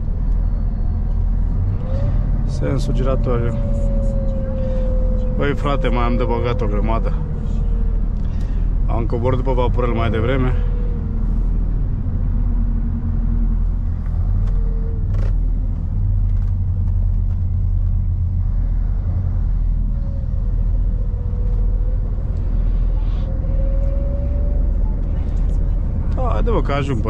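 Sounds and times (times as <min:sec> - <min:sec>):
lorry engine and road noise: 0:00.0 - 0:27.0.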